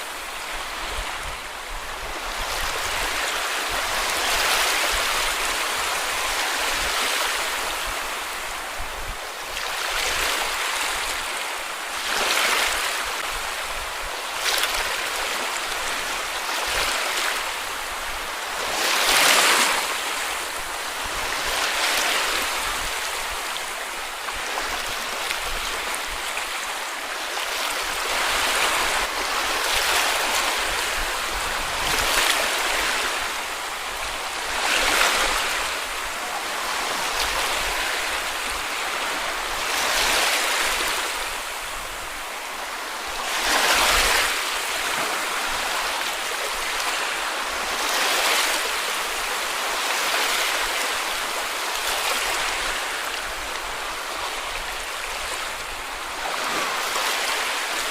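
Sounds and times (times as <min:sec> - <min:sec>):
waves washing onto beach: 0:00.0 - 0:57.9.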